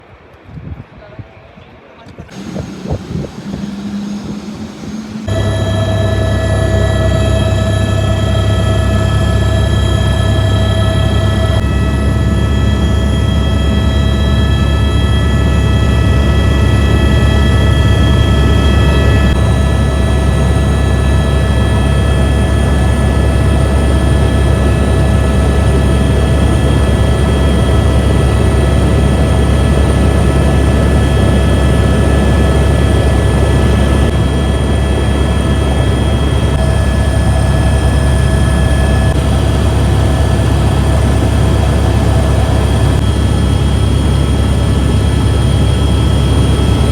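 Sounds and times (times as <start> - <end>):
helicopter engine and rotor: 2.3 - 46.9.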